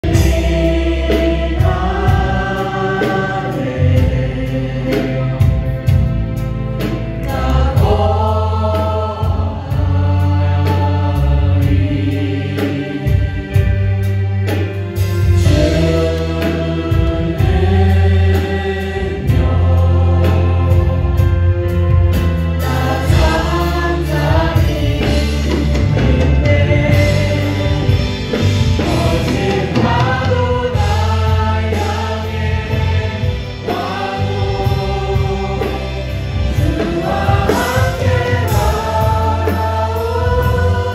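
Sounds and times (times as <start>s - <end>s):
bass guitar: 0.0s - 40.9s.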